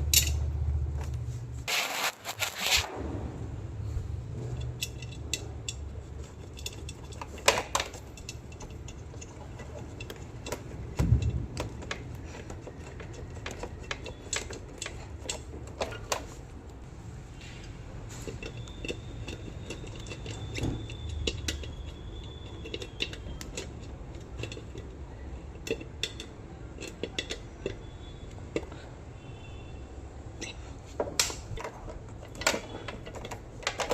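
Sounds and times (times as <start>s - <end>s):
hand tools clicking and tapping: 0.0s - 0.5s, 4.5s - 16.8s, 17.5s - 29.0s, 30.4s - 33.9s.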